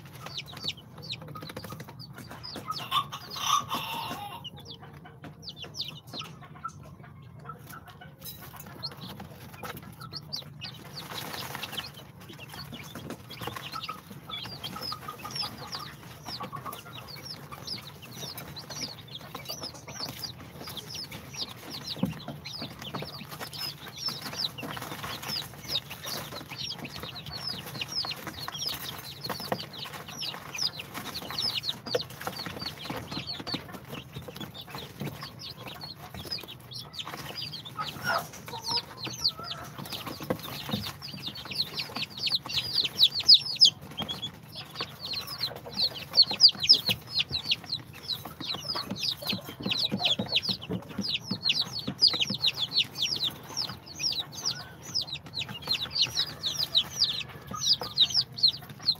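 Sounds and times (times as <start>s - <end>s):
chicks peeping: 0.0s - 58.9s.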